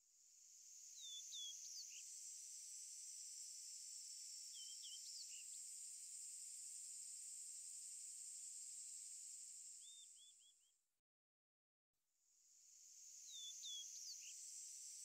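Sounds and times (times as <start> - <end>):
high-pitched insect chorus: 0.3 - 10.4, 12.6 - 15.0.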